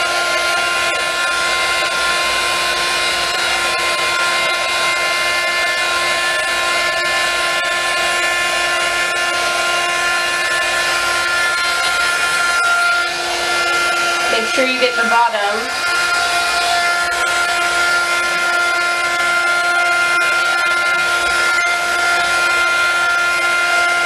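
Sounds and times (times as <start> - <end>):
heat gun blowing: 0.0 - 24.0.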